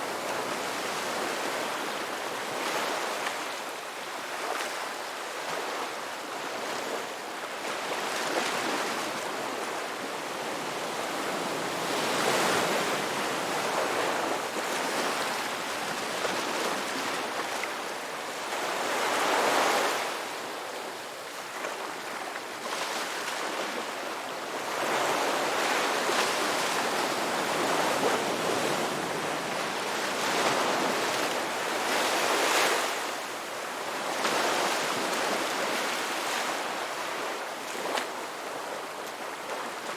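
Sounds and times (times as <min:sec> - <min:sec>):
ocean waves breaking on beach: 0:00.0 - 0:39.9
wind: 0:00.0 - 0:39.9.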